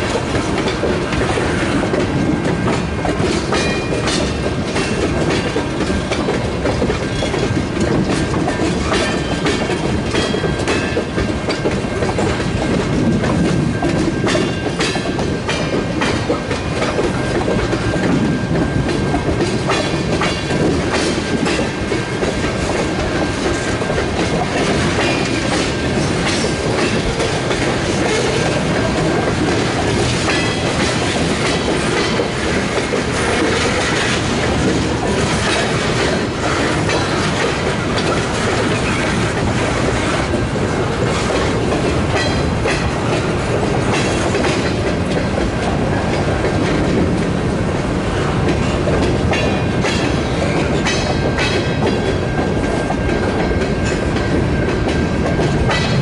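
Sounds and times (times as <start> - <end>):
freight train rumbling past: 0.0 - 56.0
wheels clattering over rail joints: 0.0 - 56.0.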